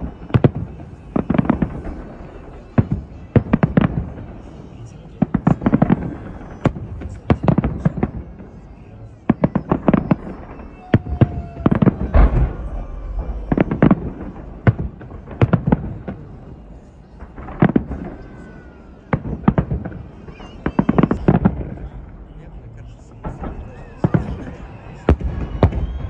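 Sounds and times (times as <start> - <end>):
firework bangs: 0.0 - 26.0.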